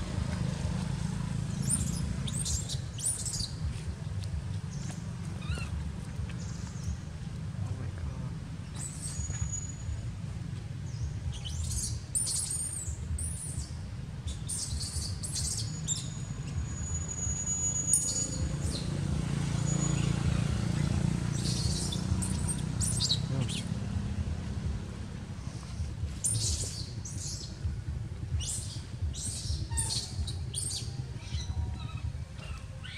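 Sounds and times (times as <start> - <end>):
steady low rumble: 0.0 - 16.8, 20.3 - 32.9
birds chirping: 0.0 - 32.9.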